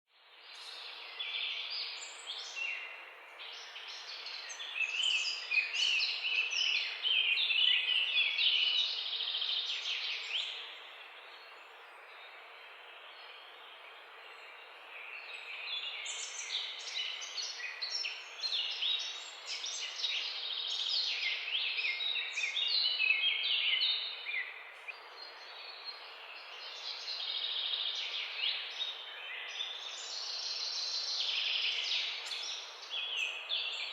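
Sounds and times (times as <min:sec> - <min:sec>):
birds chirping and trilling: 0:00.4 - 0:33.9.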